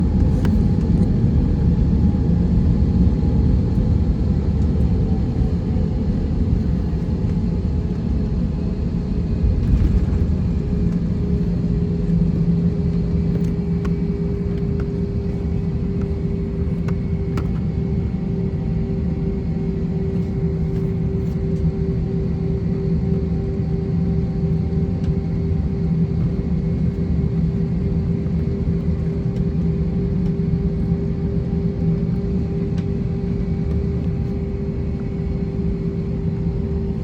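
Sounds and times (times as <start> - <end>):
airliner cabin rumble: 0.0 - 37.0.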